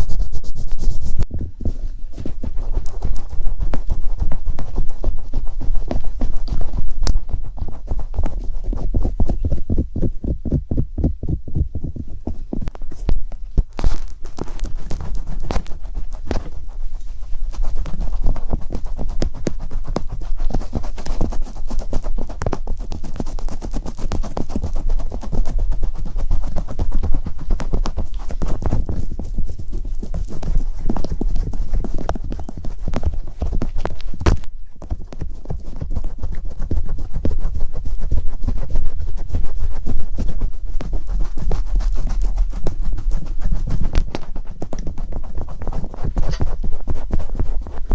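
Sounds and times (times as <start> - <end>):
rapid tapping and scratching: 0.0 - 47.9.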